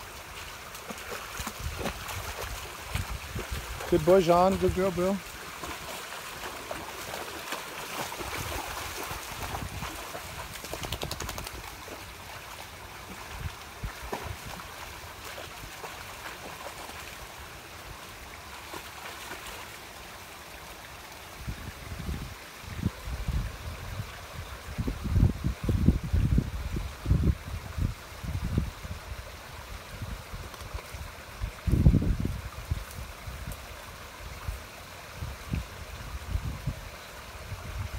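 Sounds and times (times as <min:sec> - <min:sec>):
creek water trickling: 0:00.0 - 0:37.9.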